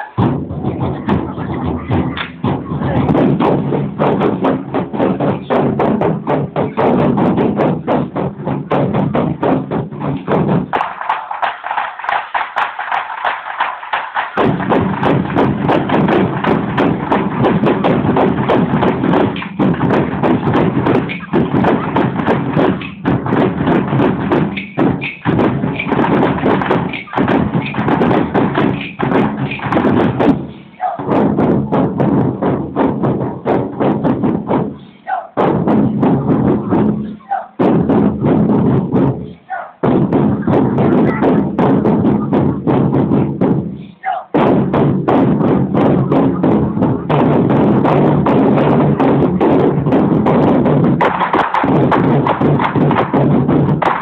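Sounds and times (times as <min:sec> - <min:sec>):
large war drums beating: 0:00.0 - 0:54.0.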